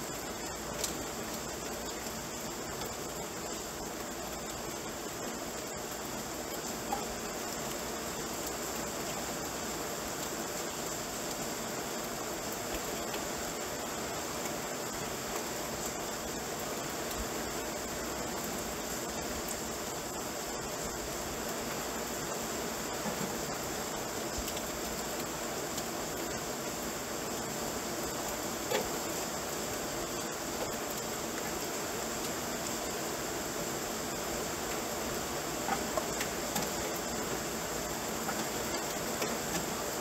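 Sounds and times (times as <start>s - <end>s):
rain falling: 0.0s - 40.0s.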